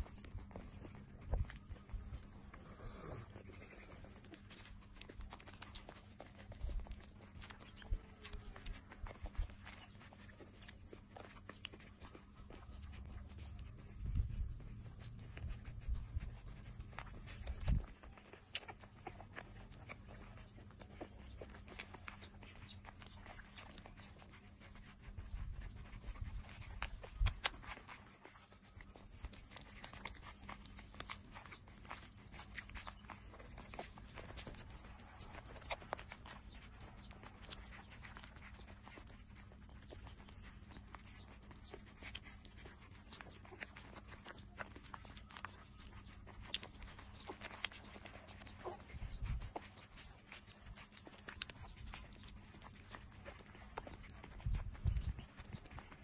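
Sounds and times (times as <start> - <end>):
puppies suckling: 0.0 - 56.0.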